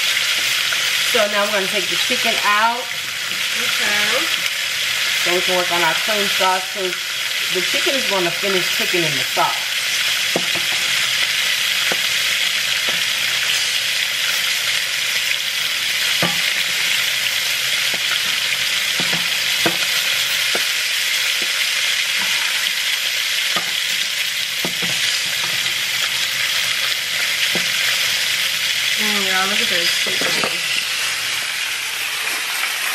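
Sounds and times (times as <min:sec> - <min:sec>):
hot oil sizzling in a skillet: 0:00.0 - 0:32.9.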